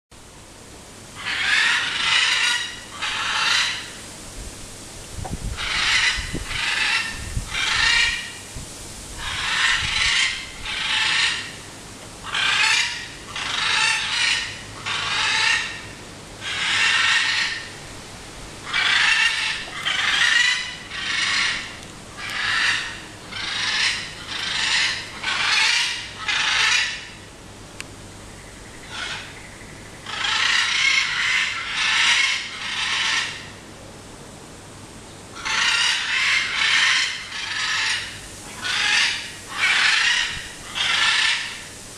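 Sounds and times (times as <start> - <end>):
macaws screeching: 1.2 - 4.0, 5.5 - 8.5, 9.2 - 11.6, 12.2 - 17.8, 18.6 - 27.3, 28.8 - 33.6, 35.4 - 41.8.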